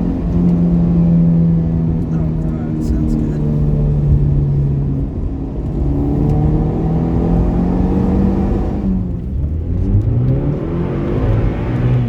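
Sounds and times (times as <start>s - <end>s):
turbocharged engine accelerating: 0.0s - 12.0s.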